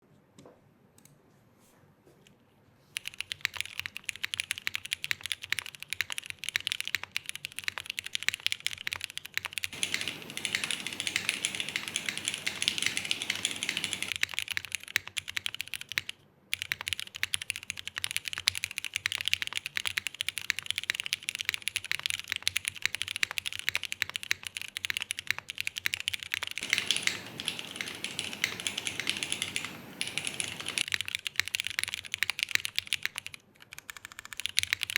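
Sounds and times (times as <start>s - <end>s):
mechanical keyboard typing: 3.0s - 34.9s.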